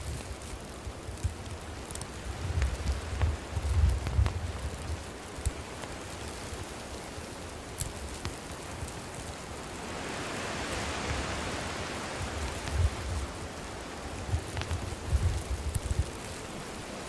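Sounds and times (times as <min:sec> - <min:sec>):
campfire hissing: 0:00.0 - 0:17.0
fire crackles: 0:00.0 - 0:17.0.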